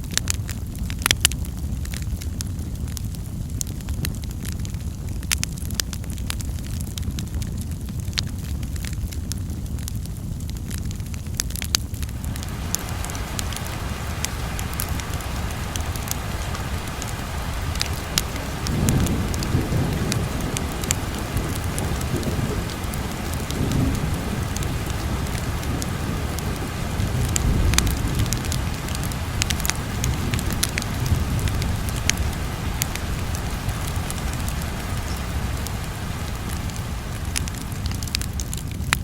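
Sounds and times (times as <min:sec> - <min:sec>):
rain hiss: 0:00.0 - 0:39.0
wood fire crackling and popping: 0:00.0 - 0:39.0
low rumble: 0:01.5 - 0:39.0.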